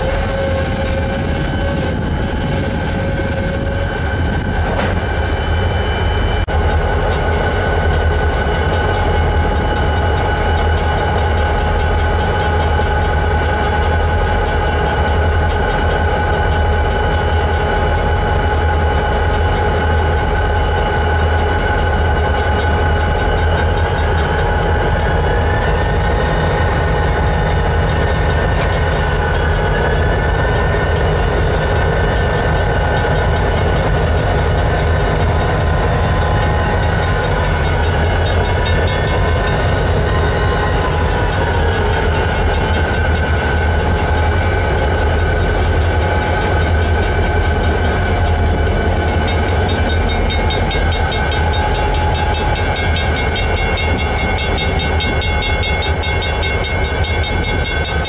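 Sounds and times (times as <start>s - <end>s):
crossing bell ringing tones: 0.0s - 58.0s
diesel locomotive engines throbbing: 0.0s - 58.0s.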